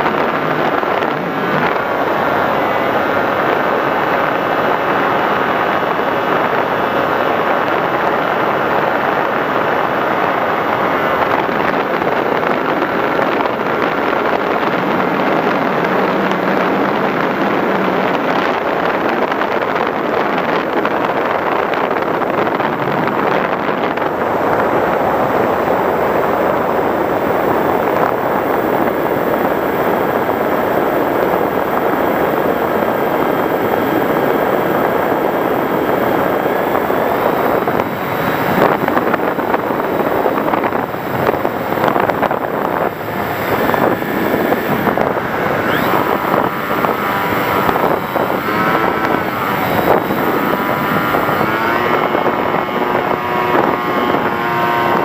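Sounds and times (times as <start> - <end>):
rc plane motor and propeller: 0.0 - 55.0
wind buffeting microphone: 0.0 - 55.0.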